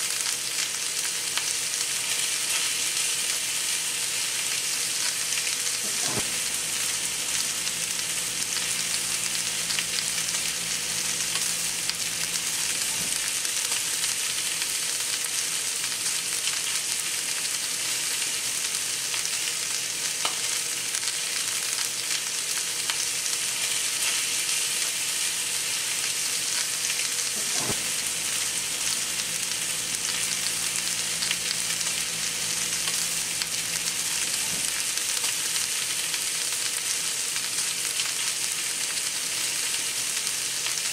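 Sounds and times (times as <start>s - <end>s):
steaks sizzling in a pan: 0.0s - 40.9s.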